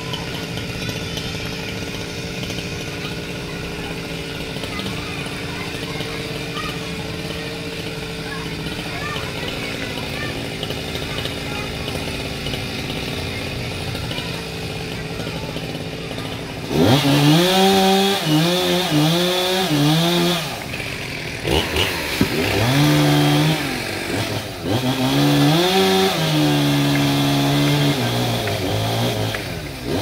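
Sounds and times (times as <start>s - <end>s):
chainsaw revving: 0.0s - 30.0s.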